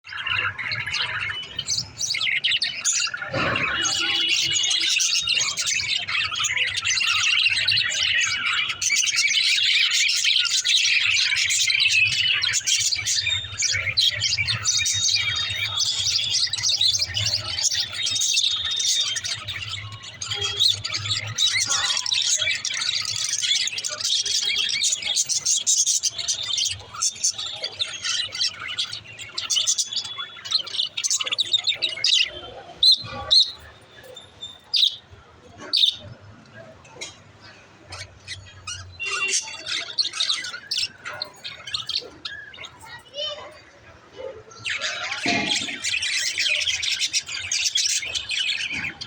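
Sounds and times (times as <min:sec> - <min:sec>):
budgerigars chirping and chattering: 0:00.0 - 0:49.0.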